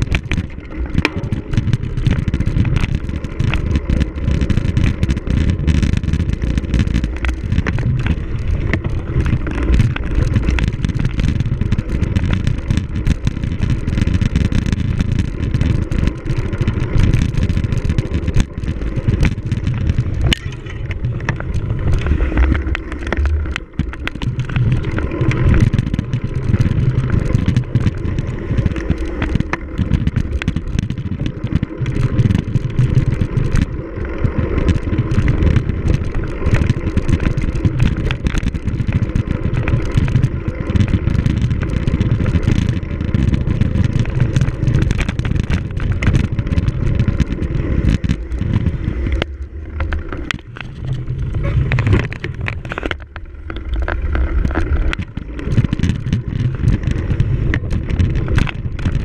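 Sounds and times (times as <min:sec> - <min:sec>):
bike riding over rough ground: 0:00.0 - 0:59.0.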